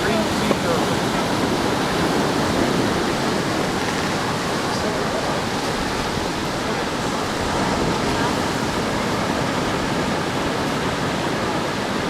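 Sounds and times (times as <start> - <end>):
ocean surf washing on beach: 0.0 - 12.0.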